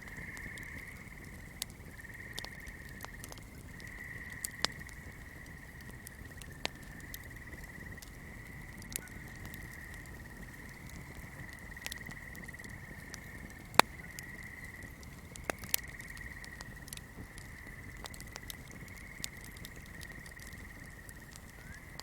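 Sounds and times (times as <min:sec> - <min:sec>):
candle flame crackling: 0:00.0 - 0:22.0.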